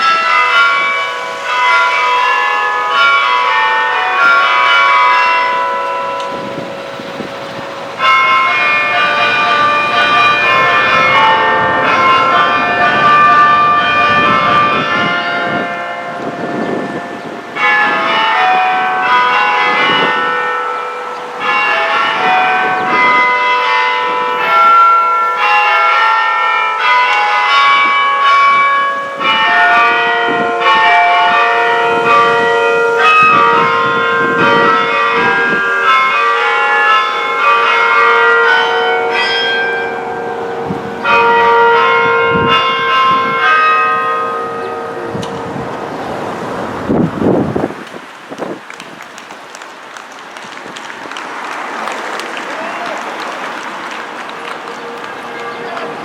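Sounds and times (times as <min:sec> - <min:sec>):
church bells ringing: 0:00.0 - 0:48.6, 0:54.0 - 0:56.0.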